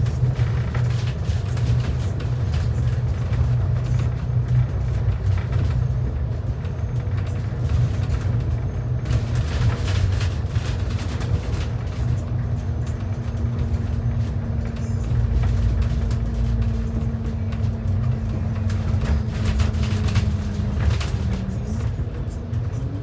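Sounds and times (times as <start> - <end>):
bus engine rumble: 0.0 - 23.0
road noise: 0.0 - 23.0.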